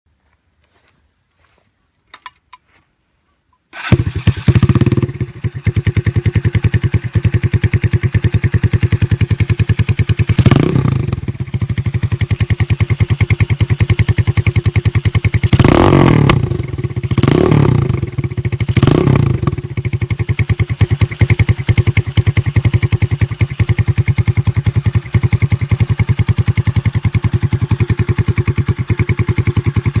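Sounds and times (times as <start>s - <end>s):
motorcycle engine idling and revving: 3.7s - 30.0s.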